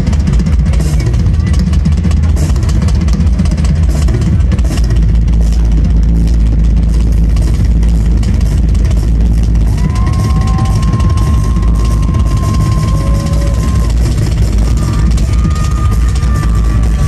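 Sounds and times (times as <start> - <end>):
distorted drum solo: 0.0 - 17.0.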